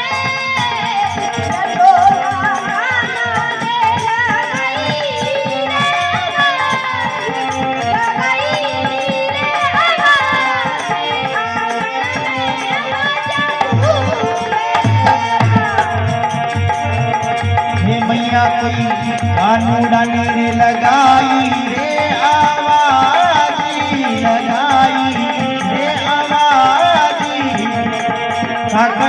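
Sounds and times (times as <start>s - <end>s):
hand drum beat: 0.0s - 29.0s.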